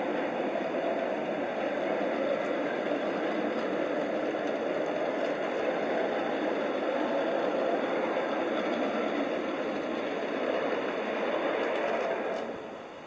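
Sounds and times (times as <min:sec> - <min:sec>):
miniature train running on track: 0:00.0 - 0:13.0.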